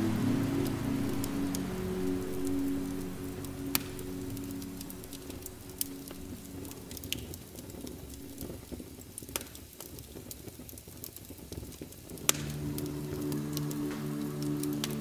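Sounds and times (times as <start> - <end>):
soft steady hiss: 0.0 - 15.0
wood fire crackling: 0.0 - 15.0.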